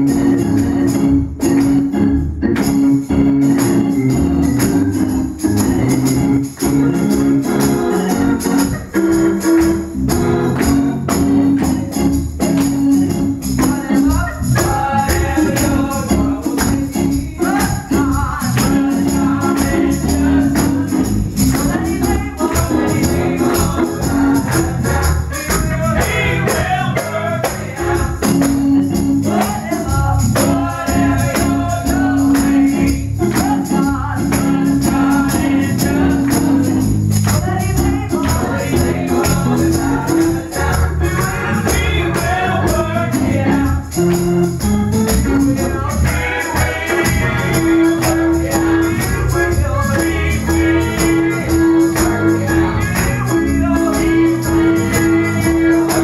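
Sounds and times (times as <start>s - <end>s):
organ chords: 0.0s - 56.0s
percussive beat: 0.0s - 56.0s
voices singing: 4.4s - 56.0s.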